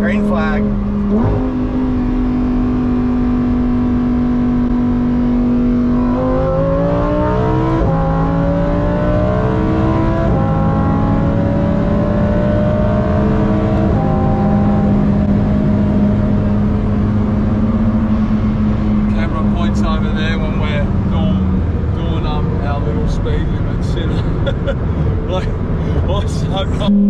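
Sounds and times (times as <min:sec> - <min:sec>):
car engine accelerating through gears: 0:00.0 - 0:27.0.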